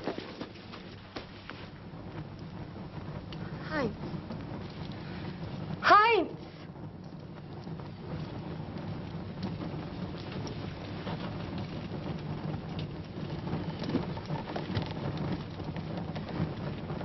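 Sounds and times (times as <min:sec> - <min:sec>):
rain hissing: 0:00.0 - 0:17.0
scattered crackles: 0:00.0 - 0:17.0.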